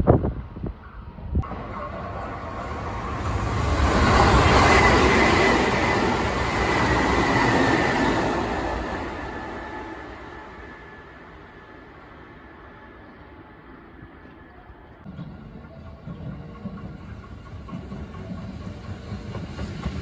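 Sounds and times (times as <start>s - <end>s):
electric train passing: 1.4s - 20.0s
train high whine: 1.4s - 20.0s.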